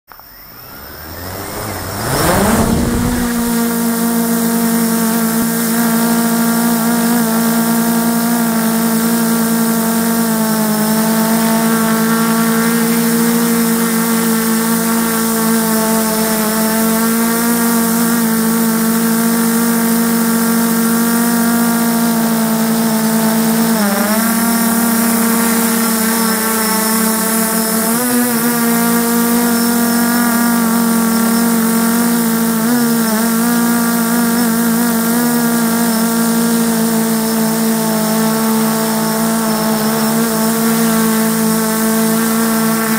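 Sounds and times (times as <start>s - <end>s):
drone motors buzzing: 0.1s - 42.9s.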